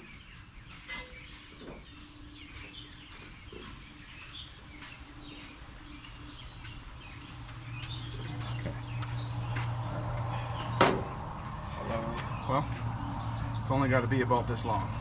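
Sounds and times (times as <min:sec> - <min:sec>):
birds chirping: 0:00.0 - 0:15.0
outdoor background noise: 0:00.0 - 0:15.0.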